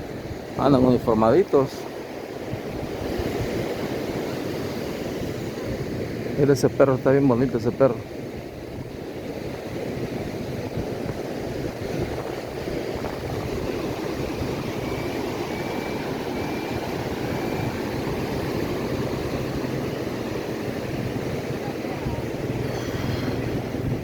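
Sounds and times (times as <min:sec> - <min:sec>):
ocean surf roaring: 0:00.0 - 0:24.0.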